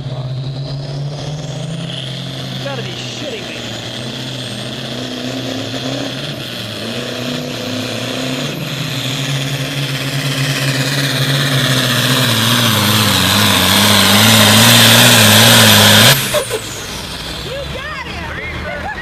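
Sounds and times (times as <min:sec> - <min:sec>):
tractor diesel engine at full throttle: 0:00.0 - 0:19.0.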